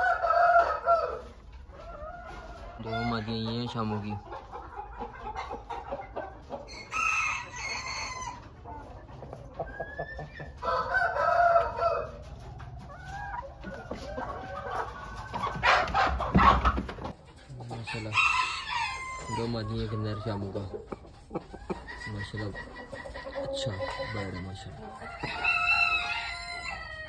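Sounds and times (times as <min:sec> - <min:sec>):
chickens crowing and clucking: 0:00.0 - 0:27.0.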